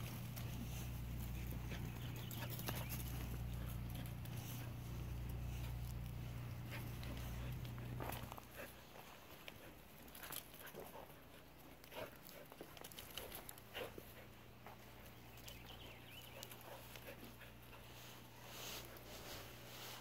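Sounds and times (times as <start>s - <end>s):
puppy paws on wood chips: 0.0s - 20.0s.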